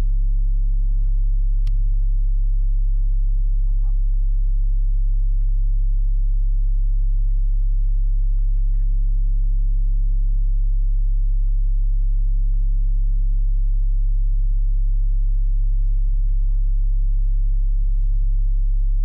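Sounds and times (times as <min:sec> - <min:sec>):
faint ticks and rattles: 0:00.0 - 0:19.0
low electrical hum: 0:00.0 - 0:19.0.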